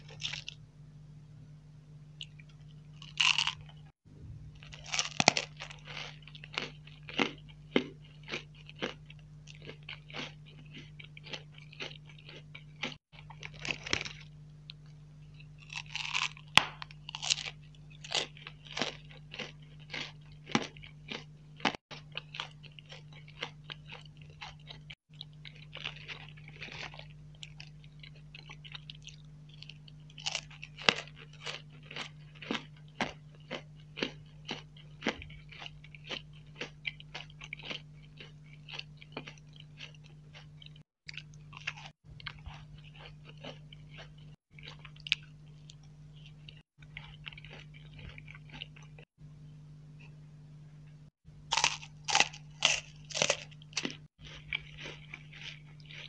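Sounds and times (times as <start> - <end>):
crunchy chewing of sweets: 0.0 - 0.6, 2.2 - 49.1, 51.3 - 56.0
faint low hum: 0.0 - 56.0.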